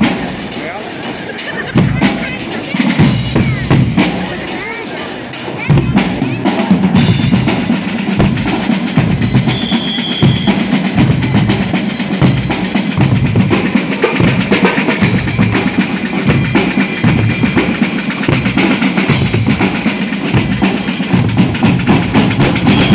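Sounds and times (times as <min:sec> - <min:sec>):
brass band playing loud: 0:00.0 - 0:22.9
drums and cymbals beating: 0:00.0 - 0:22.9.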